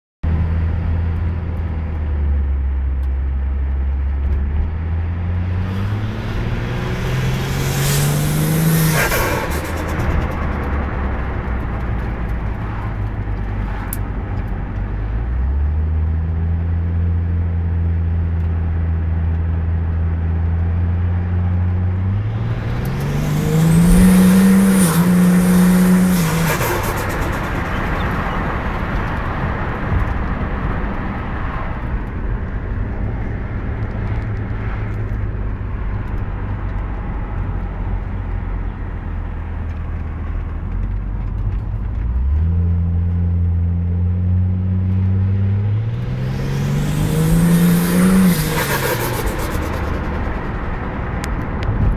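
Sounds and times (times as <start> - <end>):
car engine revving: 3.8 - 18.3, 19.8 - 40.3, 41.2 - 51.9.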